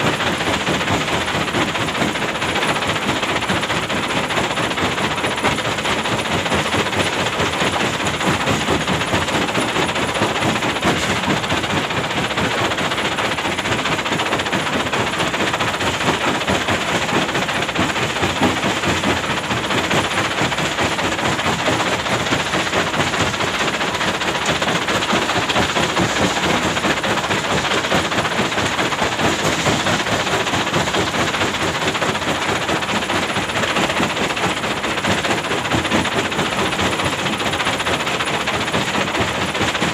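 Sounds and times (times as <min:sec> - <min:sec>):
excavator diesel engine clatter: 0:00.0 - 0:39.9.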